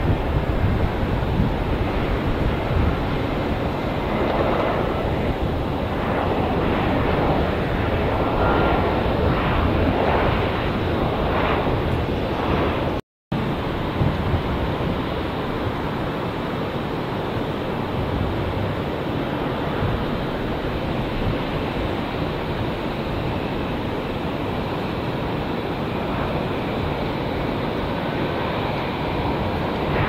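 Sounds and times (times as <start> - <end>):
jet airliner roar: 0.0 - 30.0.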